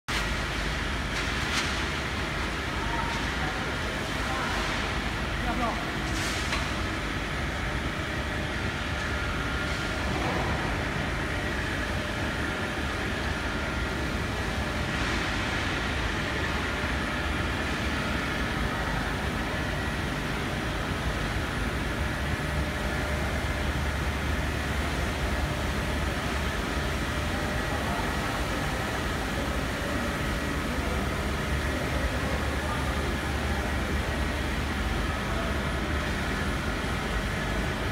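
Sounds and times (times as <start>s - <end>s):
machine hum with low drone: 0.1s - 37.9s.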